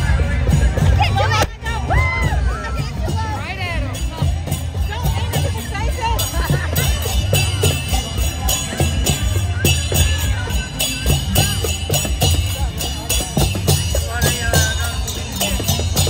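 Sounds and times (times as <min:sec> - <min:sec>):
drum beat: 0:00.0 - 0:16.0
jingling metal percussion: 0:00.0 - 0:16.0
people calling and chattering: 0:00.0 - 0:16.0.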